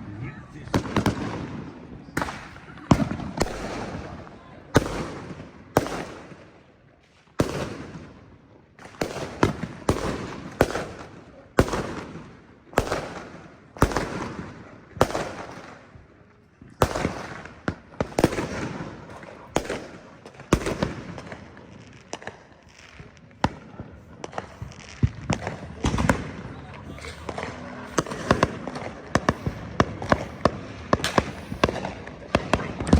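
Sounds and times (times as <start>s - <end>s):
fireworks banging with echo: 0.0s - 32.9s.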